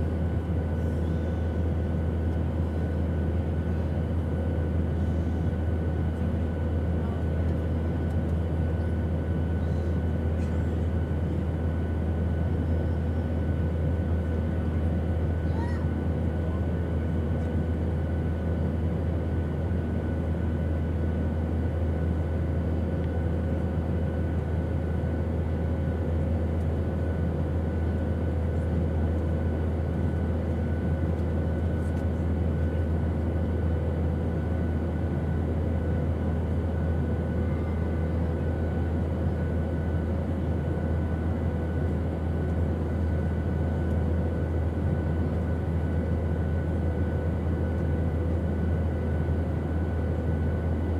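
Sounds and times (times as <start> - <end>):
airplane engine drone: 0.0 - 50.9.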